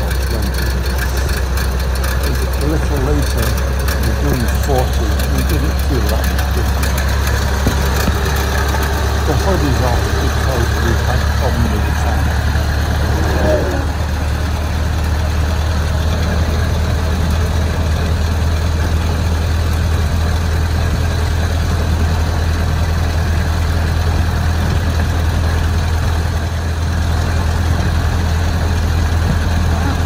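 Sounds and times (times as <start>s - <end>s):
old car engine droning: 0.0s - 30.0s
road noise: 0.0s - 30.0s
wind: 0.0s - 30.0s.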